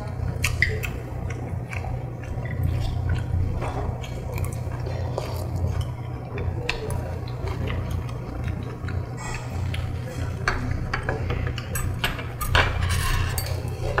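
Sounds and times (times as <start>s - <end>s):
chewing: 0.0s - 12.6s
steady low hum: 0.0s - 14.0s.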